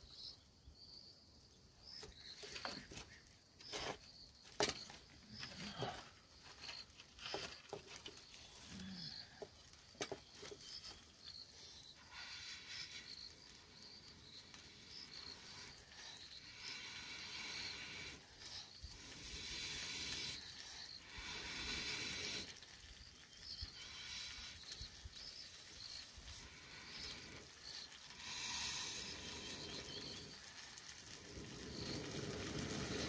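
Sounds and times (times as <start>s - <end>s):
fire flaring up: 3.6s - 33.0s
hissing puffs through blowpipe: 4.6s - 33.0s.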